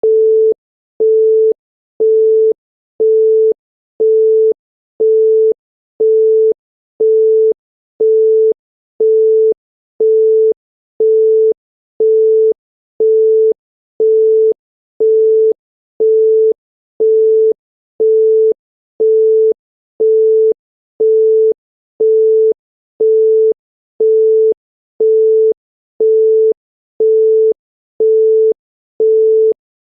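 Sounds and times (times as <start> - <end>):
telephone busy tone beeping: 0.0 - 29.6.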